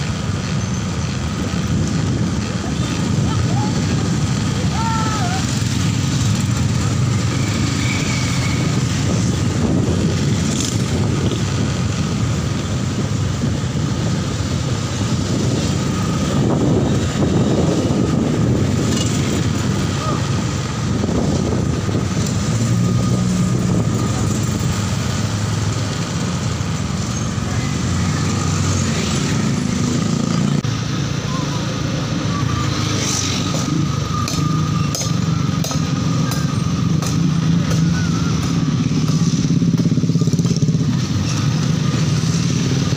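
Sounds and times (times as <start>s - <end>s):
engines droning: 0.0s - 42.9s
passing vehicles: 0.0s - 42.9s.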